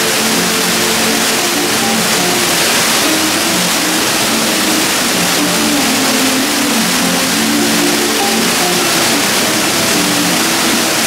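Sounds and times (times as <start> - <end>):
music with low held notes: 0.0 - 11.0
waterfall rushing into pool: 0.0 - 11.0.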